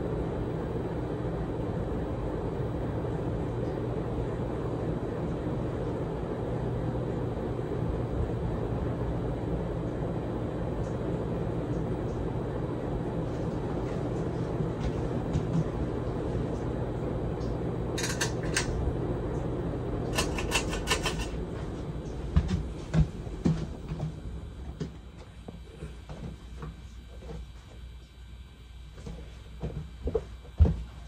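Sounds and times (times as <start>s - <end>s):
ceiling fan humming: 0.0s - 31.0s.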